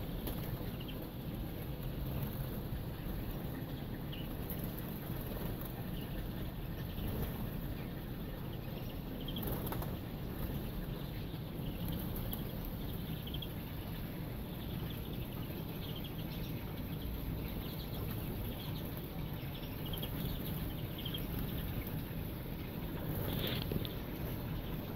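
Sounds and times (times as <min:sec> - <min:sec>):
finches chirping: 0:00.0 - 0:24.9.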